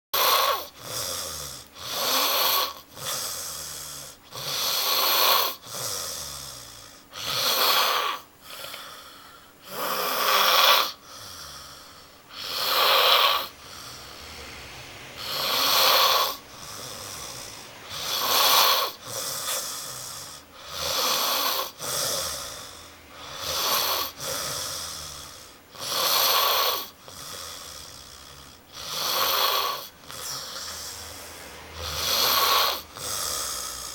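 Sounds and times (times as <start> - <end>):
man snoring: 0.2 - 33.9.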